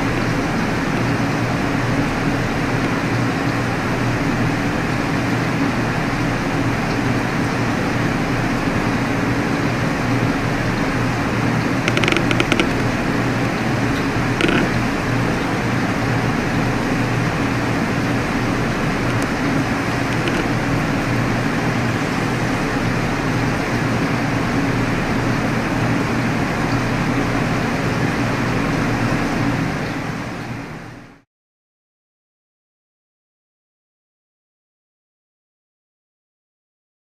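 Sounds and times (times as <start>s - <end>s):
mechanical hum with hiss: 0.0s - 31.2s.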